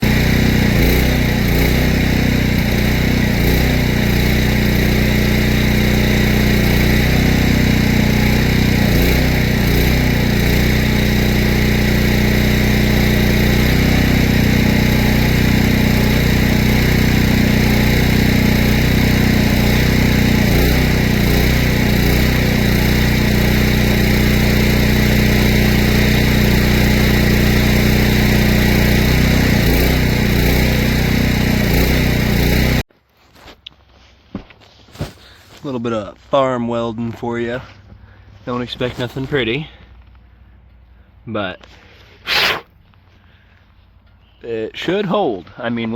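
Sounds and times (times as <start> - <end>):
small engine running: 0.0 - 32.9, 37.5 - 45.6.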